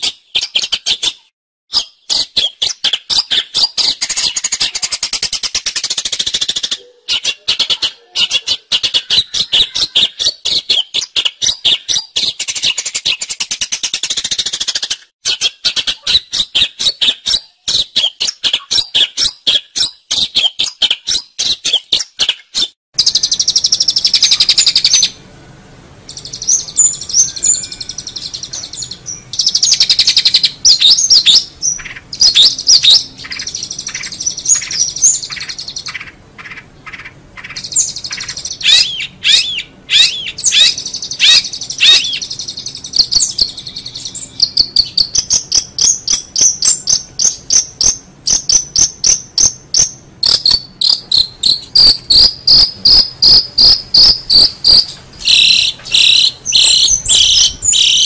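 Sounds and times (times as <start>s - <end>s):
bird repeated harsh notes: 0.0s - 25.3s, 26.1s - 58.0s
bird singing buzzy trills: 0.0s - 58.0s.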